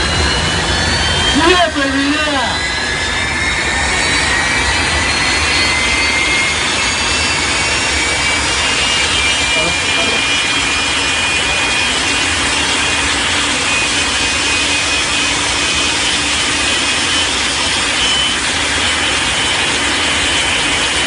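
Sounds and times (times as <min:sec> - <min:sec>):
jet engine running: 0:00.0 - 0:21.0.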